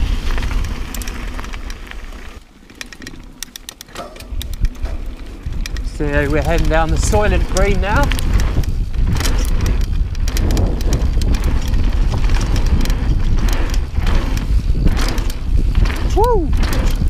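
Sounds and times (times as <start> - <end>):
wind rumbling on microphone: 0.0 - 2.4, 4.0 - 17.0
bike rattling and clattering: 0.0 - 17.0
bike tyres rumbling on dirt: 0.0 - 17.0.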